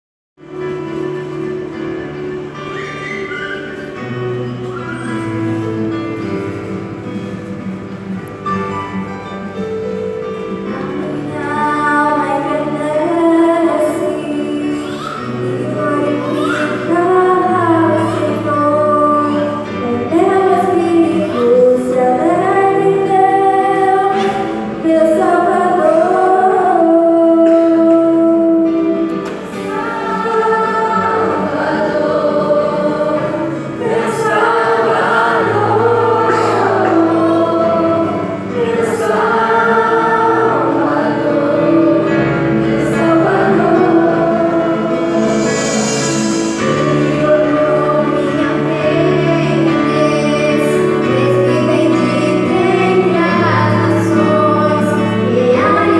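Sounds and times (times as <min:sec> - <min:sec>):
children's choir singing: 0:00.6 - 0:07.6, 0:10.4 - 0:55.9.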